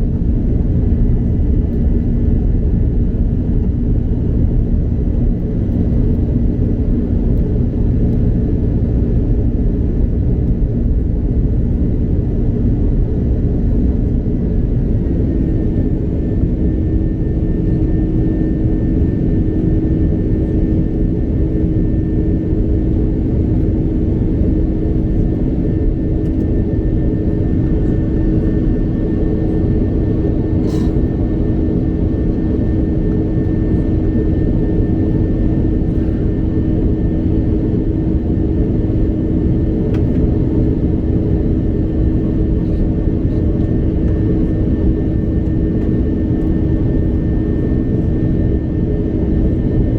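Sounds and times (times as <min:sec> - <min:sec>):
jet engine rumble in cabin: 0:00.0 - 0:49.9.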